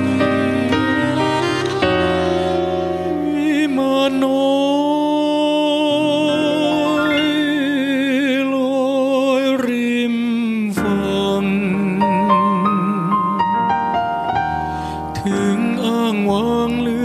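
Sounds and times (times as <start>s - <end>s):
electric piano chords: 0.0s - 8.5s, 10.8s - 17.0s
man singing with vibrato: 0.0s - 13.7s, 15.1s - 17.0s.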